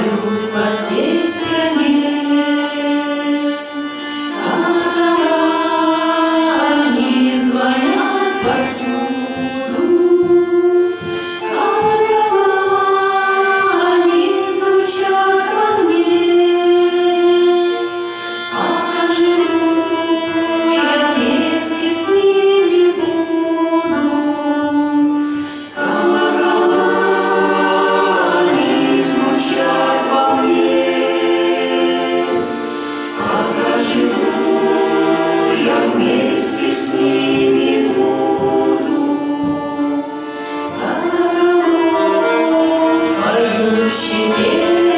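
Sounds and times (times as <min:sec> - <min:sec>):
vocal ensemble singing in harmony: 0:00.0 - 0:44.9.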